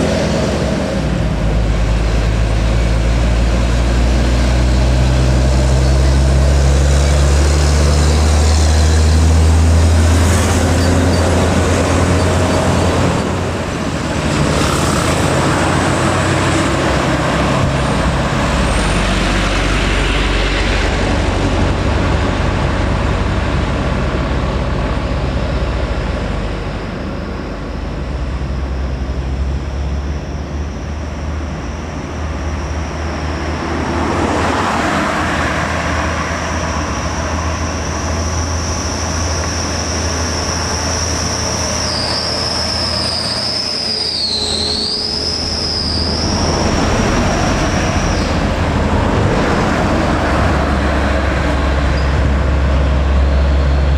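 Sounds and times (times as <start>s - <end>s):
truck engines labouring: 0.0s - 53.9s
tyre and traffic noise: 0.0s - 53.9s.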